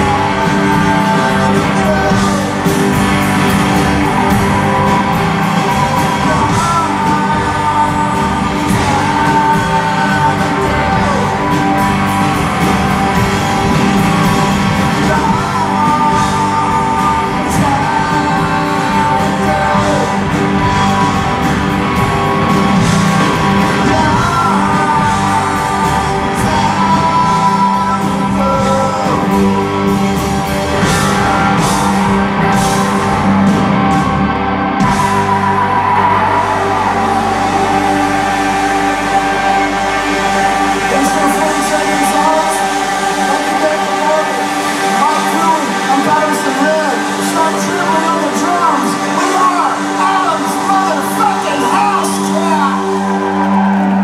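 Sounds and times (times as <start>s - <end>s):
live rock band playing: 0.0s - 54.0s
person singing: 0.0s - 54.0s.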